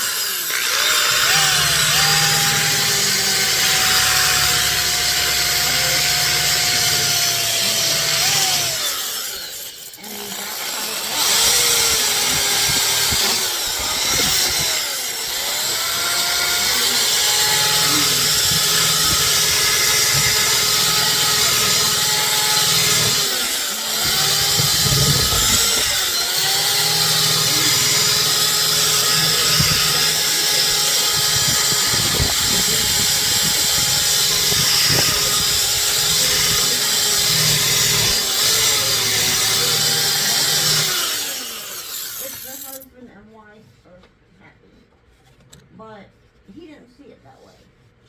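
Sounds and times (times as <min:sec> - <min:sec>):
power tool grinding: 0:00.0 - 0:42.9.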